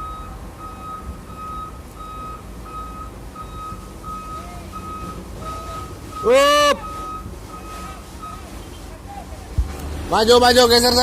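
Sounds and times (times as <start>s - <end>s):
truck reversing alarm beeping: 0.0s - 9.4s
engine low rumble: 0.0s - 11.0s.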